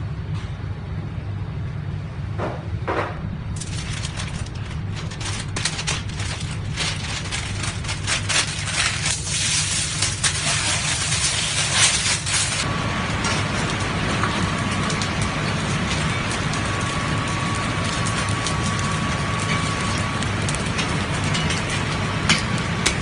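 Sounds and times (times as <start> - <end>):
steady low hum: 0.0 - 23.0
paper and foil crinkling: 3.5 - 23.0.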